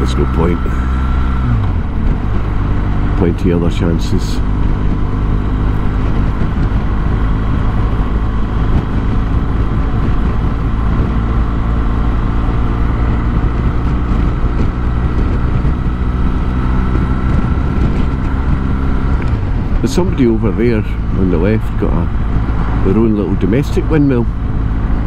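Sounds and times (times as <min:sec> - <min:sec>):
motorcycle engine cruising: 0:00.0 - 0:25.0
road and wind noise: 0:00.0 - 0:25.0.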